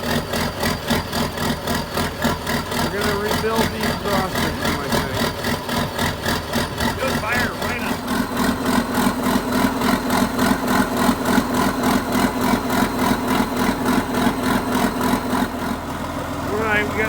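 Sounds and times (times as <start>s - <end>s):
diesel engine running at low speed: 0.0s - 17.0s.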